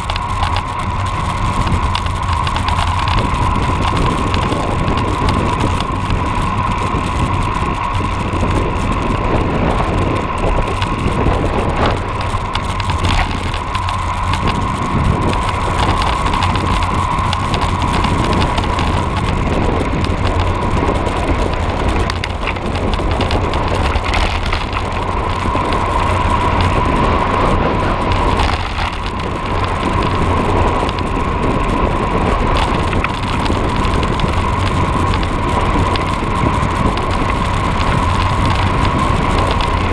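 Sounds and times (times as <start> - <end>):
bike tyres rolling on road: 0.0 - 39.9.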